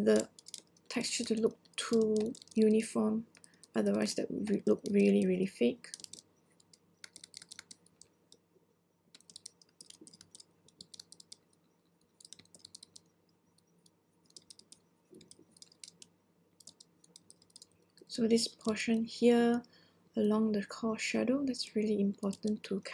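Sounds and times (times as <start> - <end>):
computer input clicks and taps: 0.0 - 8.4, 9.1 - 19.8, 22.0 - 22.7.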